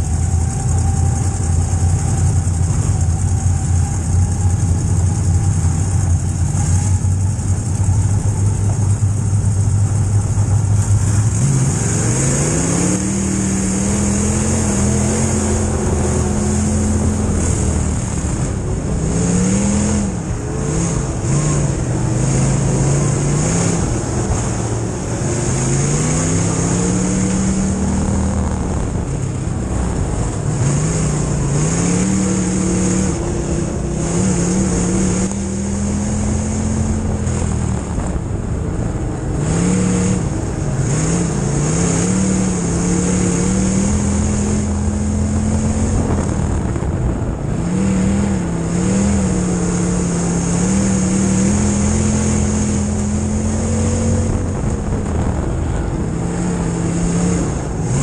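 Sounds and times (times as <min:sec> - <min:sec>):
race car engine revving: 0:00.0 - 0:58.0
wind and road noise hiss: 0:00.0 - 0:58.0.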